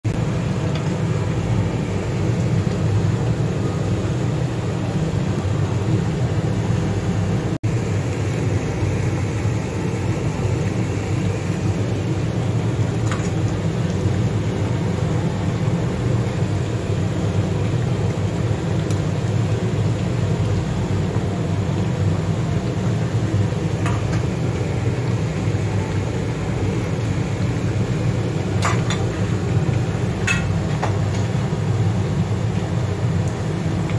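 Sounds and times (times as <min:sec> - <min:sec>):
gas stove low rumble: 0:00.0 - 0:33.9.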